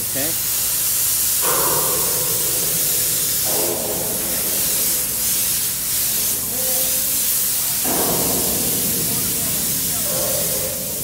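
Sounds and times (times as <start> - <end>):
spray gun hissing: 0.0 - 11.0.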